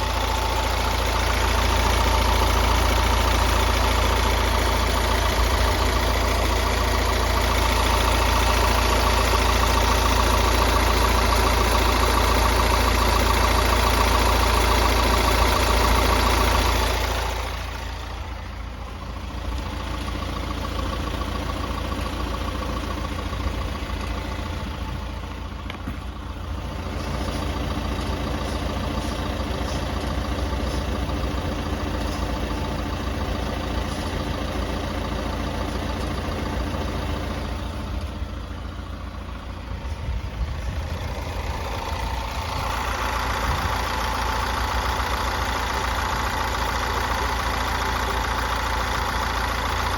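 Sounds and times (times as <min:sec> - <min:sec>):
diesel engine idling: 0:00.0 - 0:49.9.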